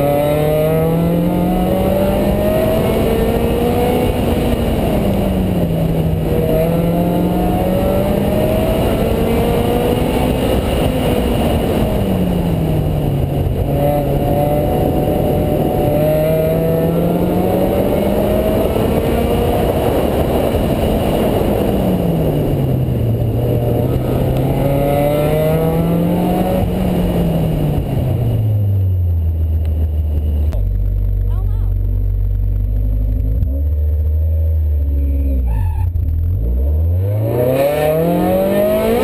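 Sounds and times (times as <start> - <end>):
car engine revving: 0.0 - 39.0
wind and road noise: 0.0 - 39.0.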